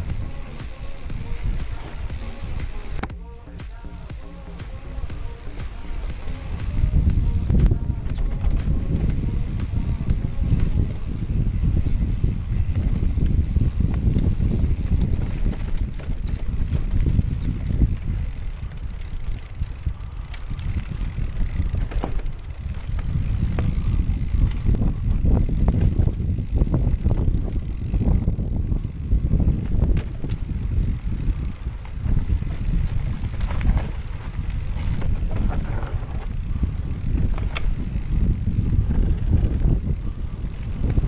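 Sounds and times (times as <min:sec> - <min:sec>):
wind buffeting microphone: 0:00.0 - 0:03.1, 0:04.7 - 0:41.0
bike clicks and rattles: 0:00.0 - 0:41.0
bike tyres rumbling on dirt: 0:00.0 - 0:41.0.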